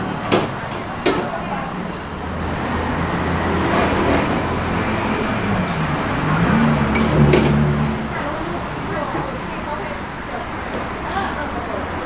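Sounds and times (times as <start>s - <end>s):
road traffic noise: 0.0s - 12.0s
vehicle engine running nearby: 0.0s - 12.0s.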